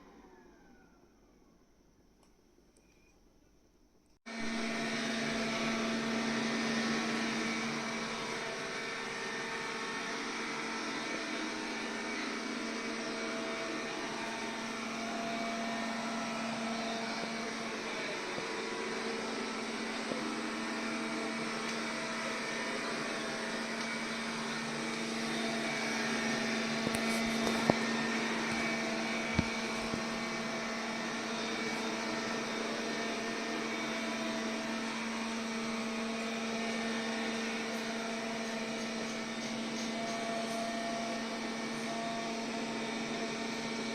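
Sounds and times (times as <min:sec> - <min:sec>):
robot vacuum motor humming: 0:04.3 - 0:43.7.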